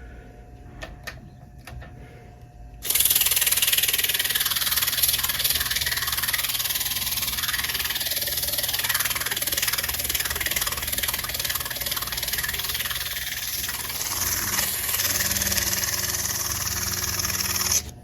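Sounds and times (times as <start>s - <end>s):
electric motor humming: 2.8s - 18.0s
sandpaper scraping motor shaft: 2.8s - 18.0s.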